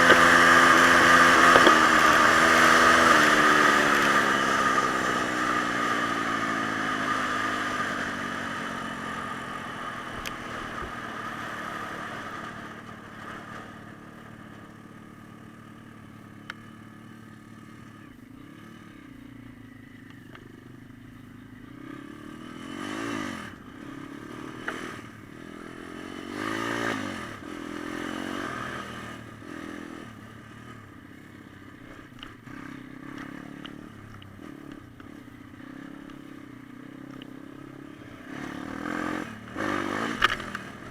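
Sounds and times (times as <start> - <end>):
dirt bike engines revving and passing: 0.0 - 14.6, 21.0 - 40.9.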